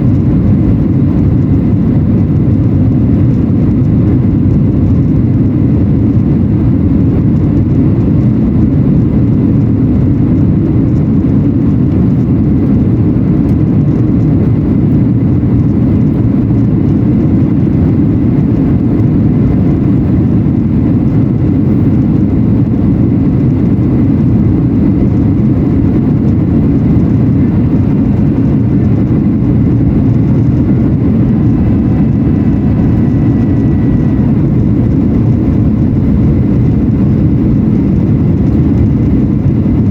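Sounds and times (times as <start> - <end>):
airplane cabin engine roar: 0.0 - 39.9
faint steady whine: 0.0 - 39.9.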